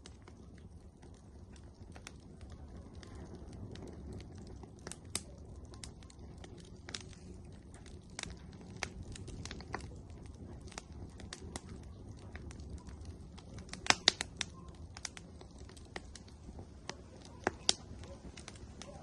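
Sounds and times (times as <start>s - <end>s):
firewood crackling and popping: 0.0s - 19.0s
low fire rumble: 0.0s - 19.0s.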